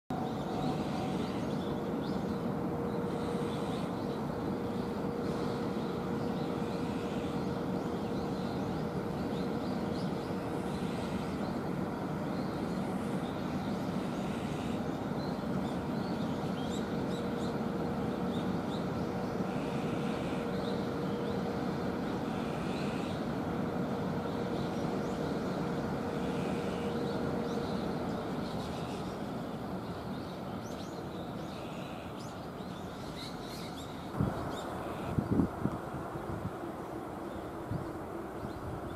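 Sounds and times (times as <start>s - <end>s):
low rumble of locomotives: 0.1s - 38.9s
steady humming tone: 0.1s - 38.9s.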